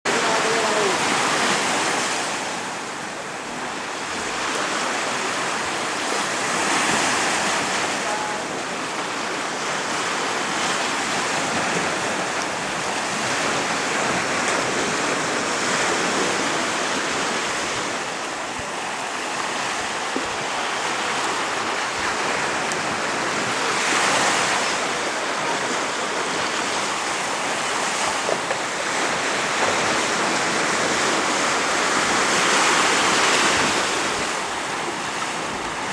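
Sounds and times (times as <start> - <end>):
waves breaking on rocky shore: 0.1 - 35.9.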